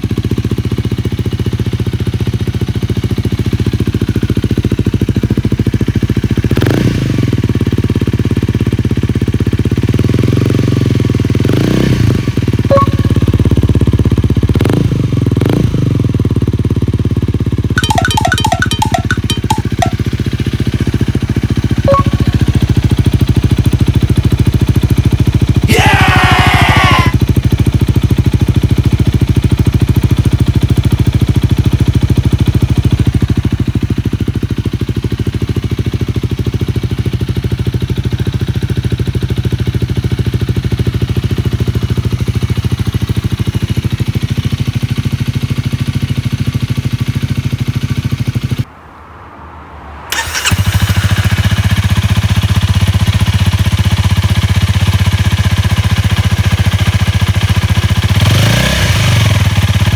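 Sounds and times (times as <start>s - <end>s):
motorcycle engine idling: 0.0s - 11.5s, 12.2s - 25.8s, 26.6s - 48.7s, 50.1s - 58.4s, 59.0s - 59.9s.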